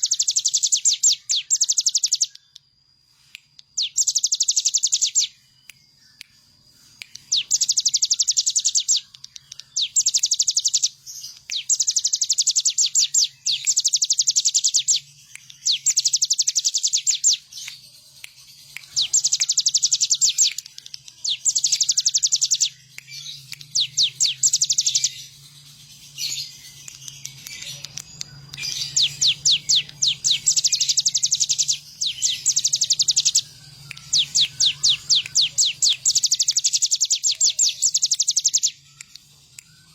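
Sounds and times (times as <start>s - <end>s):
bird singing high trills: 0.0s - 2.6s, 3.8s - 39.9s.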